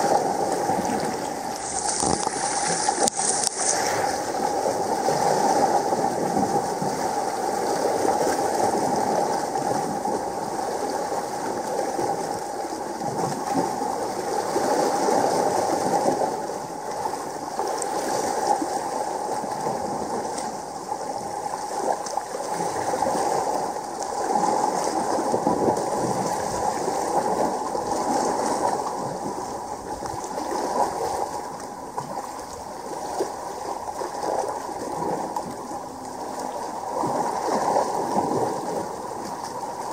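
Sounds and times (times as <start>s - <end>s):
sea water washing against rocks: 0.0s - 39.9s.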